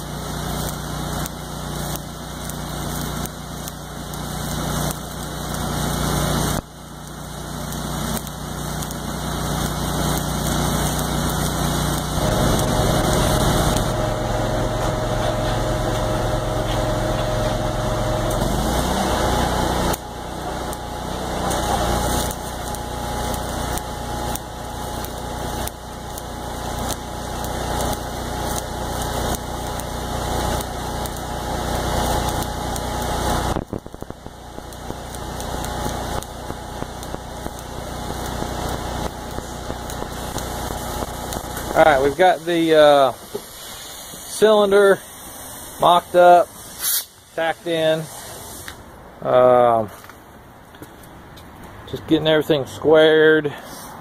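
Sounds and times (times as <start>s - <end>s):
welding arc crackling and hissing: 0.0s - 50.1s, 51.9s - 54.0s.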